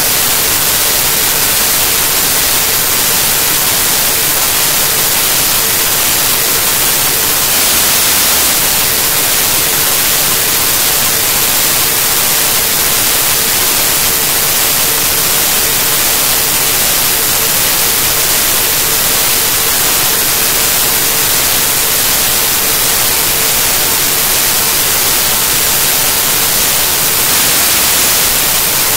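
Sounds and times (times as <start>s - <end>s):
static hiss: 0.0s - 28.9s.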